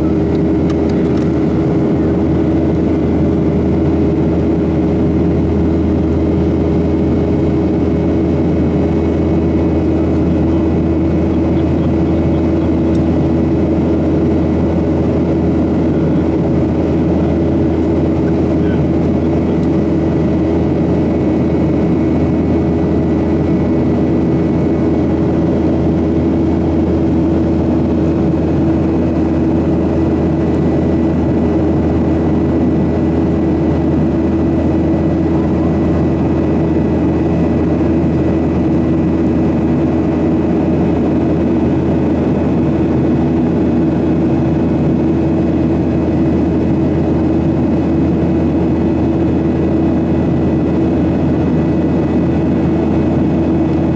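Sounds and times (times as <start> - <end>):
jet engine cabin drone: 0.0 - 53.9
steady hum: 0.0 - 53.9.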